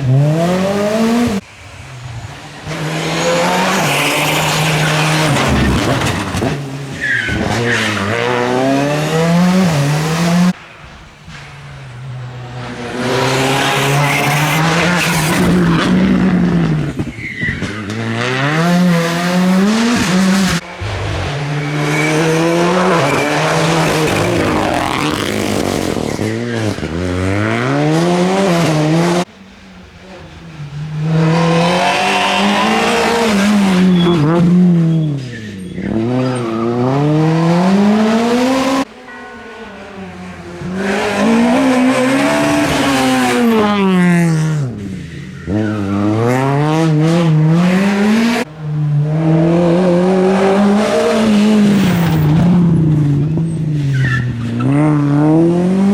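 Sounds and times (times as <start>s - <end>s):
rally cars passing at full throttle: 0.0s - 55.9s
tyres squealing and skidding: 1.4s - 28.6s, 29.4s - 55.6s.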